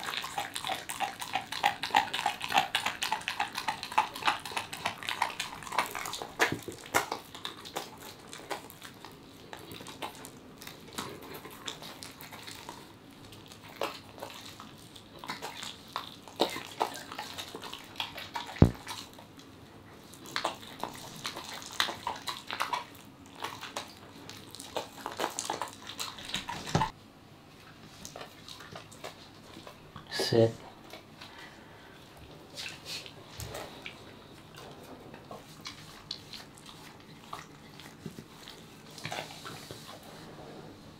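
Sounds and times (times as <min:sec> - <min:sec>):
dog chewing bone: 0:00.0 - 0:27.0, 0:27.6 - 0:31.3, 0:32.0 - 0:40.1.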